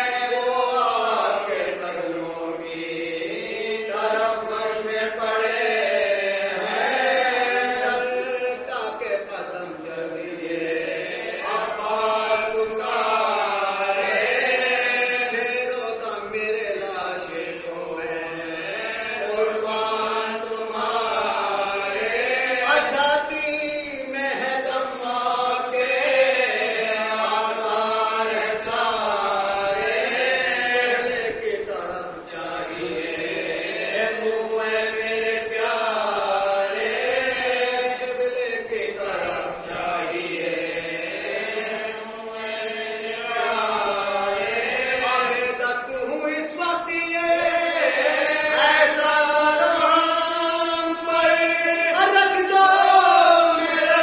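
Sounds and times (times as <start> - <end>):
men chanting slow melody: 0.0 - 54.0.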